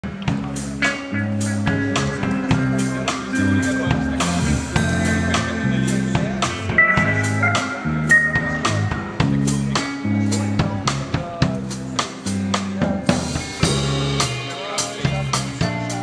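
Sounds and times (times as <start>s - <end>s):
drum kit beat with cymbals: 0.0s - 16.0s
electric bass: 0.0s - 16.0s
electric guitars: 0.0s - 16.0s.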